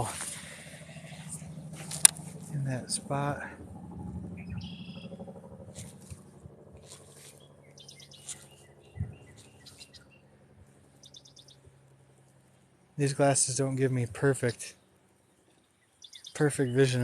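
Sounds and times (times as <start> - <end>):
birds chirping trills: 0.0 - 17.0.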